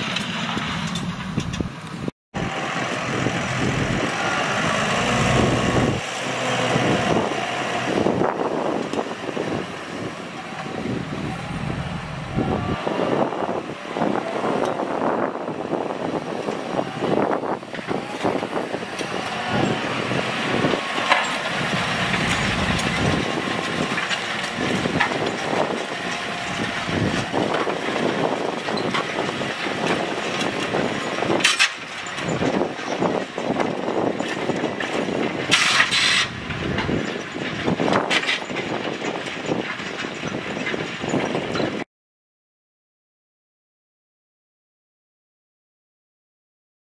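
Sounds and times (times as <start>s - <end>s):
tractor diesel engine under load: 0.0s - 41.8s.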